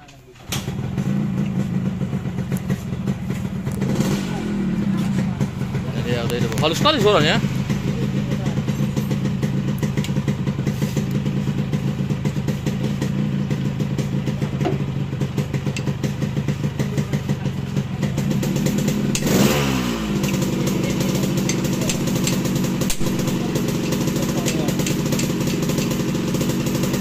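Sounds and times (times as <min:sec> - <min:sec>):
motorcycle engine idling: 0:00.3 - 0:27.0.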